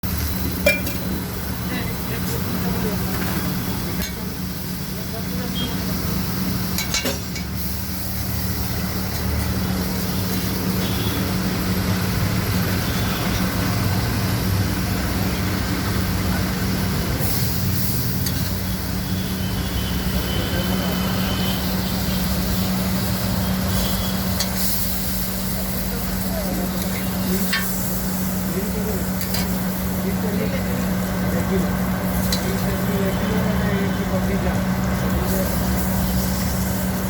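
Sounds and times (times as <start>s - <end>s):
passing traffic: 0.0s - 37.0s.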